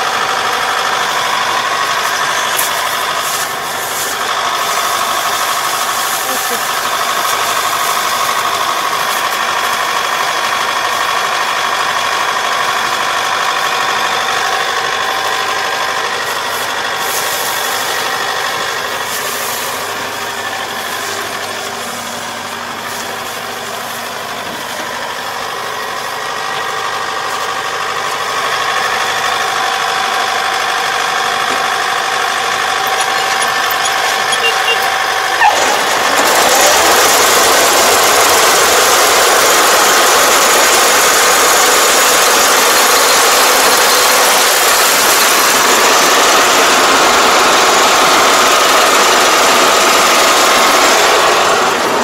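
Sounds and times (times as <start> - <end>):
combine harvester diesel engine: 0.0 - 52.0.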